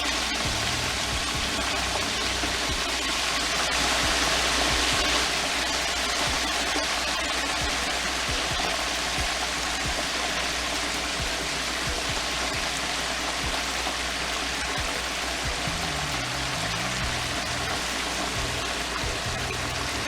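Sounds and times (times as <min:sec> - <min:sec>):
fish deep-frying in hot oil: 0:00.0 - 0:20.0.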